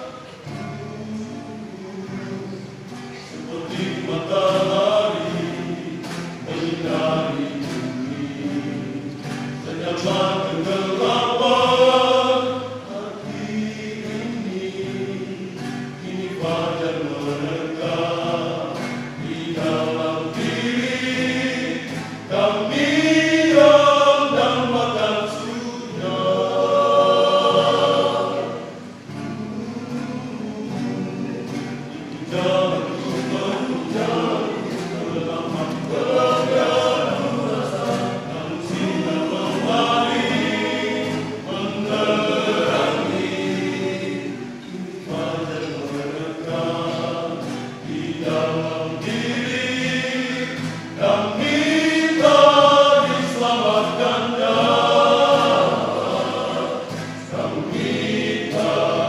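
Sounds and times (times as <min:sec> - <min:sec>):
acoustic guitar: 0:00.0 - 0:59.0
men singing in harmony: 0:00.0 - 0:59.0.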